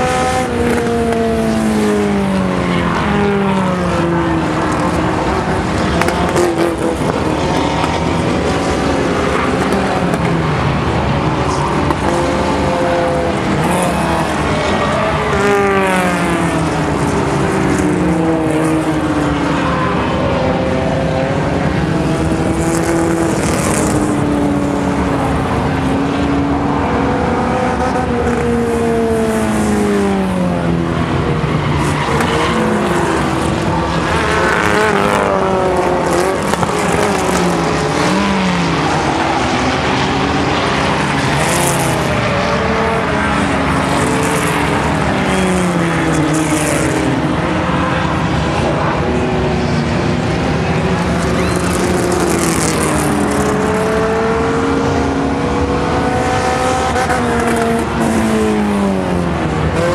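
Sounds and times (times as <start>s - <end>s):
racing car engines: 0.0s - 59.9s.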